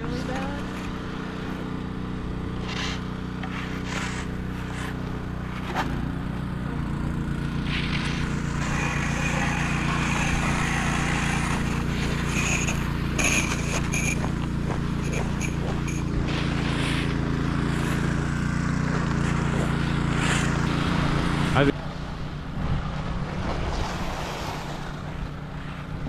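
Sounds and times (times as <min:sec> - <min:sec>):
vehicle engine running: 0:00.0 - 0:23.5.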